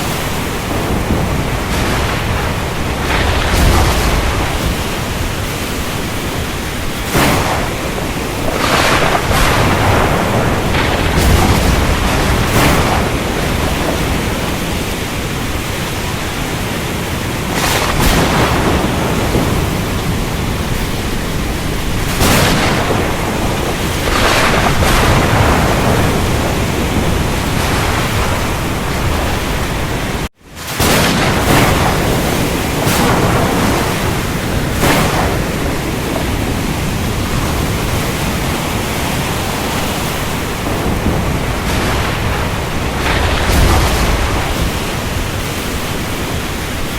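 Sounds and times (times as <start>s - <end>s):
heavy rain: 0.0s - 46.9s
surf rushing: 0.0s - 46.9s.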